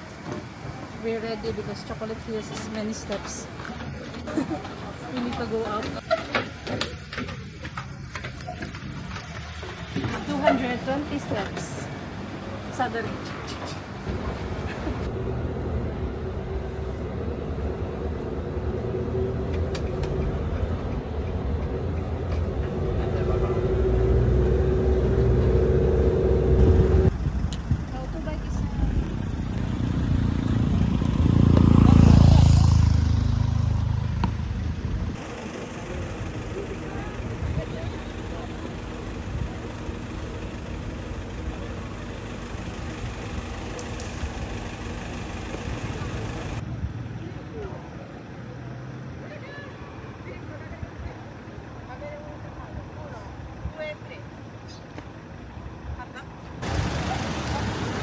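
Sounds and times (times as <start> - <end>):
vehicle engine and road rumble: 0.0 - 58.0
vehicle whine: 0.0 - 58.0.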